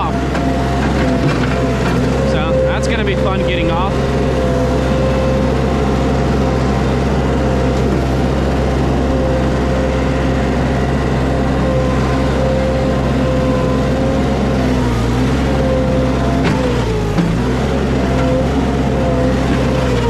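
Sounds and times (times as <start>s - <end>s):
small engine running under load: 0.0s - 20.0s
steady machine whine: 0.0s - 20.0s.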